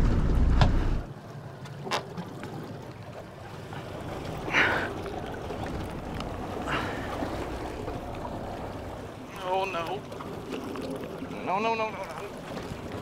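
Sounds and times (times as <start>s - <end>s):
water lapping against hull: 0.4s - 13.0s.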